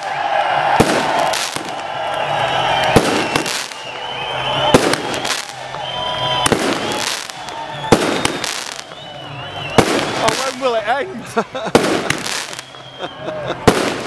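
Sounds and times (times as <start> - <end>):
fireworks crackling and whistling: 0.0 - 14.0.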